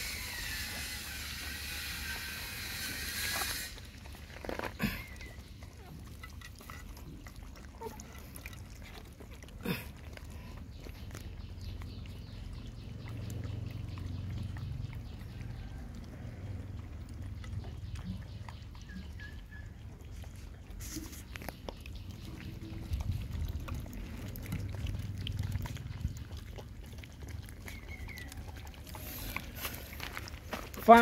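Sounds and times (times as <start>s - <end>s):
dogs lapping and slurping: 0.0s - 31.0s.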